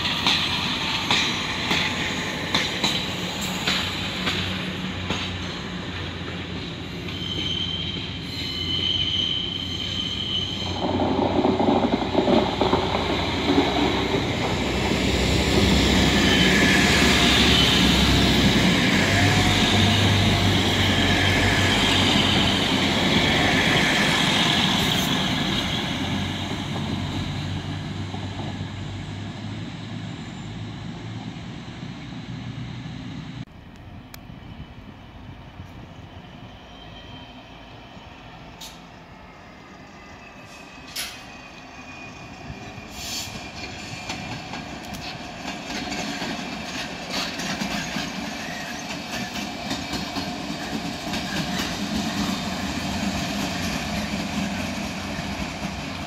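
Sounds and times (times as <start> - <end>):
high wheel squeal on rails: 0.0 - 33.0, 34.4 - 56.0
train passing: 0.0 - 56.0.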